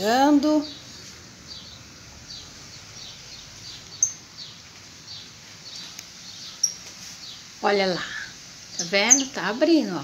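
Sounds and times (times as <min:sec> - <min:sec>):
small bird chirping: 0:00.3 - 0:10.0.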